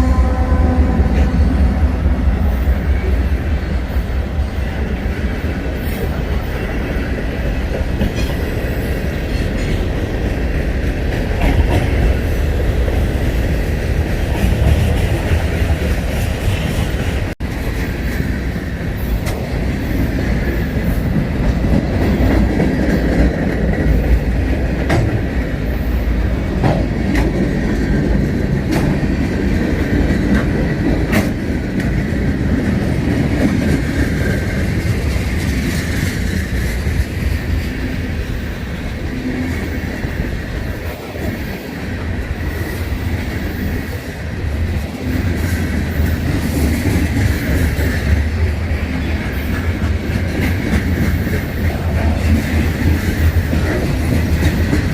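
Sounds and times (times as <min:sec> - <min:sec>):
freight train cars rumbling past: 0:00.0 - 0:54.9
wheels clicking over rail joints: 0:05.7 - 0:25.5, 0:26.5 - 0:41.4, 0:42.0 - 0:54.9.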